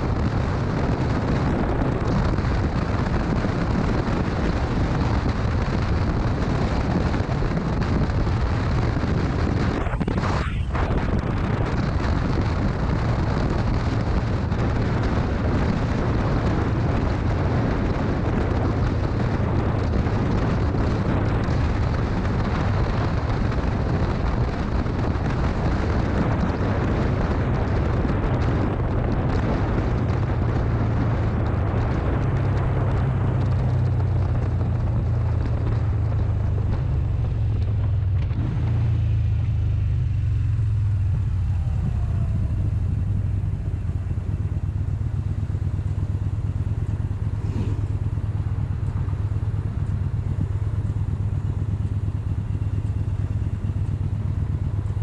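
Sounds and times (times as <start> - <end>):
motorcycle engine: 0.0 - 55.0
wind on microphone: 0.0 - 55.0.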